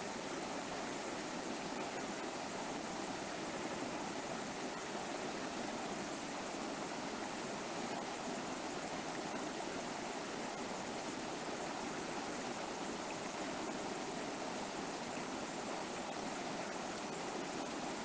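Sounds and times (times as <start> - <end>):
river water flowing over rocks: 0.0 - 18.0.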